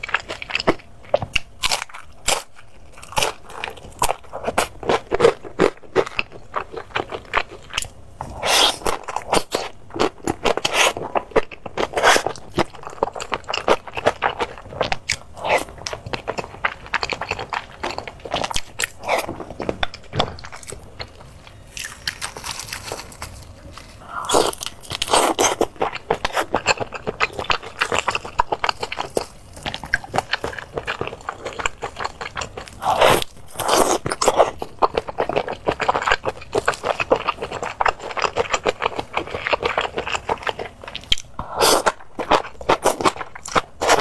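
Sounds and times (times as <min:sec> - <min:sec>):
person chewing crunchy food: 0:00.0 - 0:44.0.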